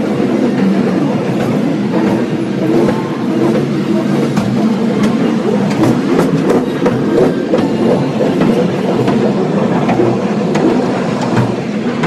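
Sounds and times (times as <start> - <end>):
train wheels rumbling on rail: 0.0 - 12.0
wheels clicking and clacking: 0.0 - 12.0.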